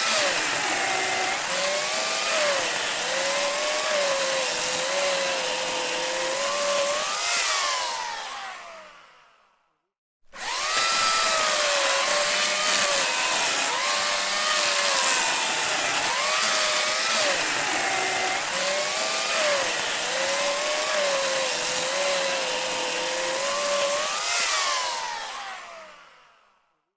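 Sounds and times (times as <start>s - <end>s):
electric saw cutting wood: 0.0s - 9.6s, 10.3s - 26.6s.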